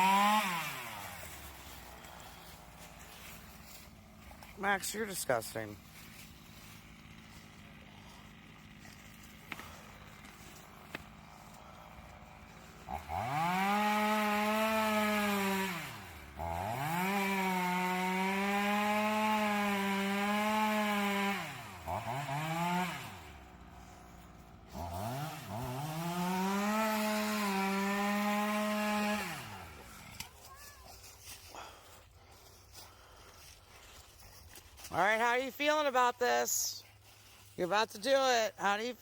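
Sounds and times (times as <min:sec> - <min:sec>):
chainsaw cutting into tree: 0:00.0 - 0:32.0.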